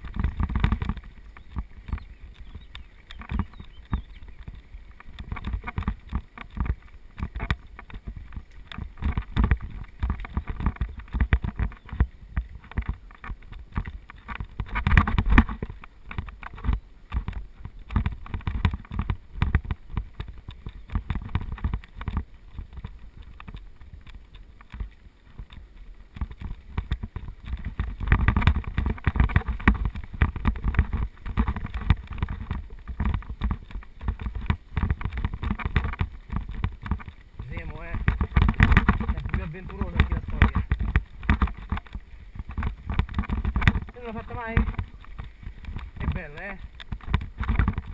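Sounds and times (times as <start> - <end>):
bike rattling over bumps: 0.0 - 47.9
bike tyres on loose dirt: 0.0 - 47.9.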